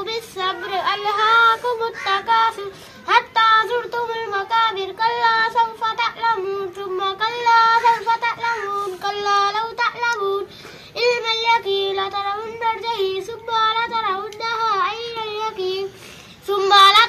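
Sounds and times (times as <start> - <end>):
girl chanting melodically: 0.0 - 17.0.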